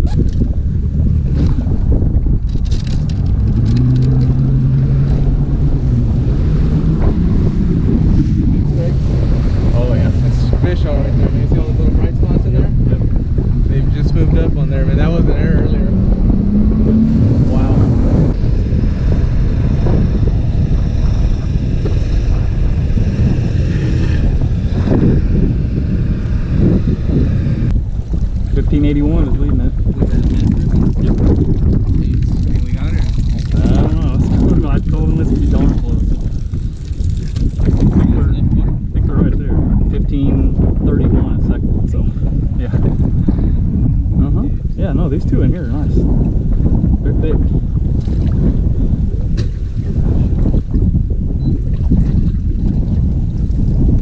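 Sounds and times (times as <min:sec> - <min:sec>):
low engine hum: 0:00.0 - 0:54.0
low rumble: 0:00.0 - 0:54.0
wind buffeting microphone: 0:00.0 - 0:54.0.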